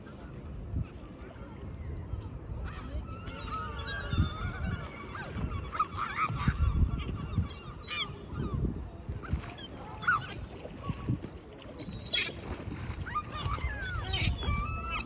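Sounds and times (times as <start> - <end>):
gulls calling: 2.6 - 15.0.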